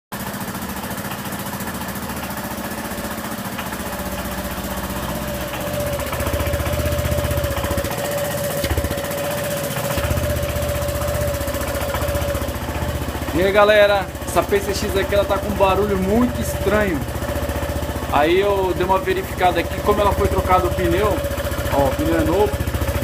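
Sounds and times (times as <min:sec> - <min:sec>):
scooter engine with rattly exhaust: 0:00.1 - 0:23.0.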